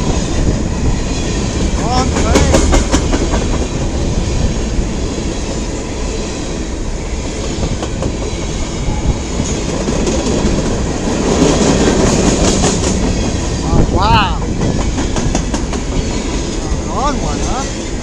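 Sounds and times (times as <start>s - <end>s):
freight train wheels clacking: 0.0s - 13.7s, 14.3s - 18.0s.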